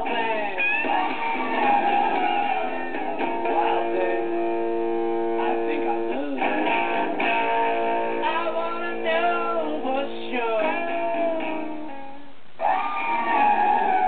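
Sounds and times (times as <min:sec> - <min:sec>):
toy playing guitar song with singing: 0:00.0 - 0:14.0.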